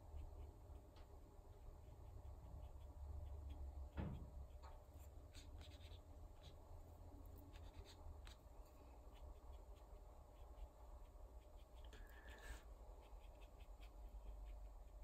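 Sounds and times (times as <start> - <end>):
low steady hum: 0.0 - 15.0
brush scratching on paper: 1.8 - 6.6, 7.4 - 15.0.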